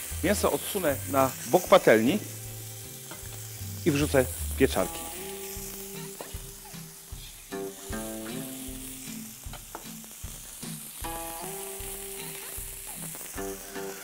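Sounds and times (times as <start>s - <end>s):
background music: 0.0s - 14.0s
food sizzling in a frying pan: 0.0s - 14.0s.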